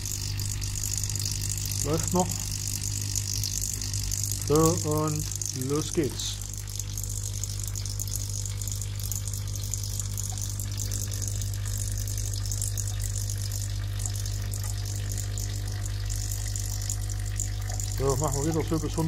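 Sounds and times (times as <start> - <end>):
water pump humming: 0.0 - 19.0.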